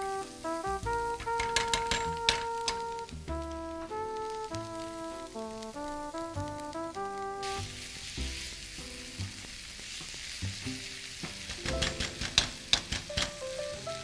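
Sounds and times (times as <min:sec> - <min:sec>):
food sizzling in a frying pan: 0:00.0 - 0:14.0
light background music: 0:00.0 - 0:14.0.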